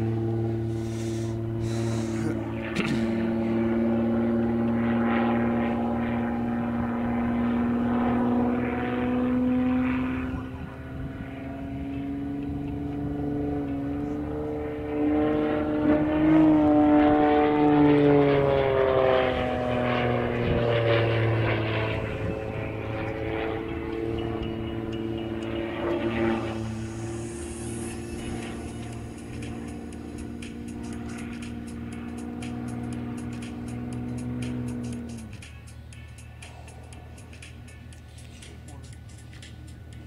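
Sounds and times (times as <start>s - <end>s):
propeller plane engine: 0.0s - 40.0s.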